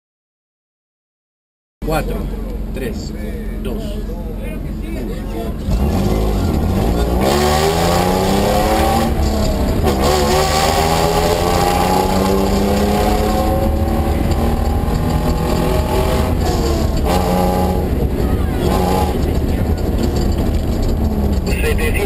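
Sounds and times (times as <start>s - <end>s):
rally car engine revving: 1.8s - 22.0s.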